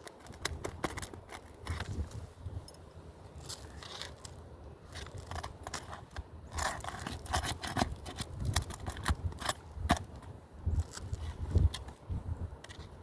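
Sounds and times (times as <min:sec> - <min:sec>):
pry tools scraping shingles: 0:00.0 - 0:02.2, 0:03.4 - 0:12.0.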